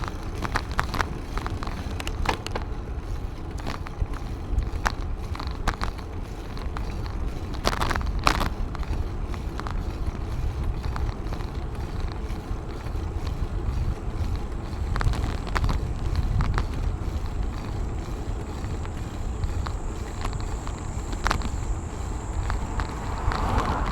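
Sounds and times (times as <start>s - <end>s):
moving bicycle rumble: 0.0s - 23.9s
sharp clicks and rattles: 0.0s - 23.9s
wind buffeting microphone: 0.0s - 23.9s.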